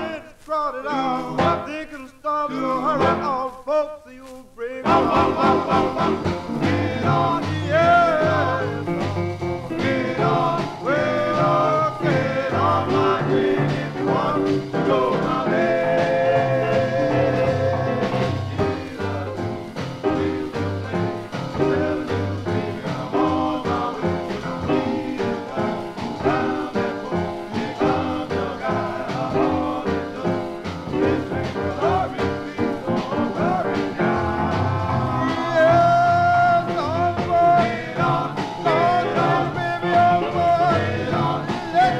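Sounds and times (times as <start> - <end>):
band with steady beat: 0.0 - 2.0, 2.6 - 3.7, 4.4 - 41.9
vocal group singing: 0.0 - 3.7, 4.3 - 41.9.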